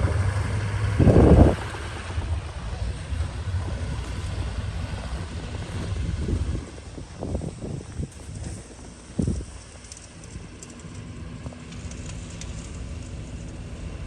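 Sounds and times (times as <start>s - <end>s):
loud burst of low noise: 0.0s - 14.0s
vehicle engine rumbling: 0.0s - 14.0s.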